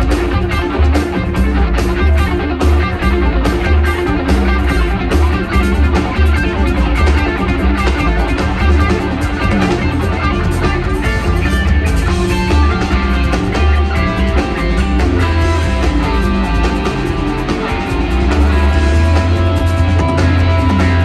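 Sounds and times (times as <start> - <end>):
bass guitar: 0.0 - 21.0
drum kit beat: 0.0 - 21.0
electric guitar: 0.0 - 21.0.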